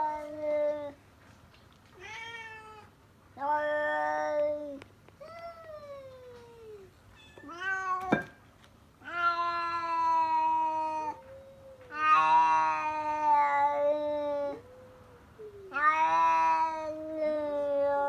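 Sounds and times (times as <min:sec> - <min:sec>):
cat meowing and yowling: 0:00.0 - 0:01.0, 0:02.0 - 0:08.3, 0:09.0 - 0:14.8, 0:15.4 - 0:18.0.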